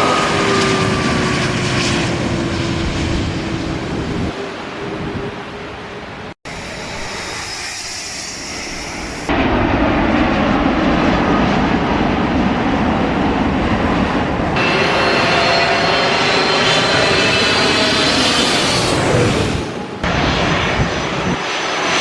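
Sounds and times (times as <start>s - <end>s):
high engine whine: 0.0s - 22.0s
jet engines roaring: 0.0s - 22.0s.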